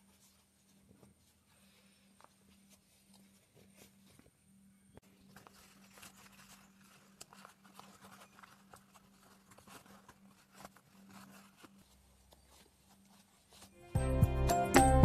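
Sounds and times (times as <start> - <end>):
fabric rustling and crinkling: 0.0 - 13.8.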